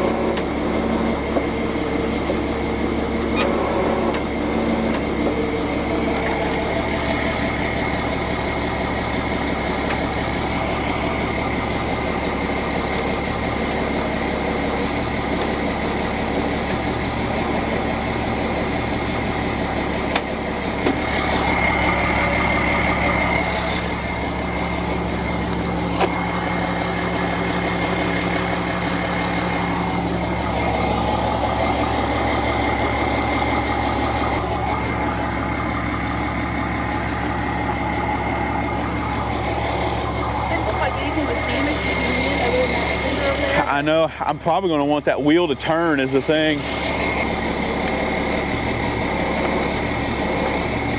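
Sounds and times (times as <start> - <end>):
truck engine idling: 0.0 - 50.9.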